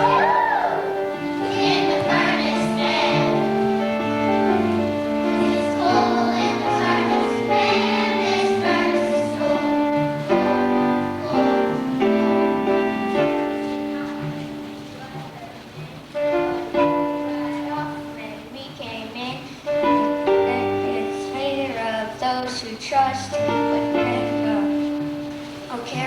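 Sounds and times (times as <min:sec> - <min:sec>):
children's choir singing: 0:00.0 - 0:18.4, 0:19.6 - 0:26.0
instrumental backing track: 0:00.0 - 0:26.0.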